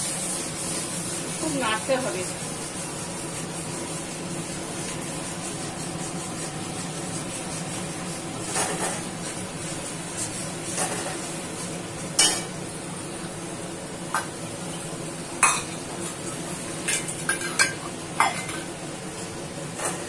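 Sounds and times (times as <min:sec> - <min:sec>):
food sizzling: 0:00.0 - 0:19.8.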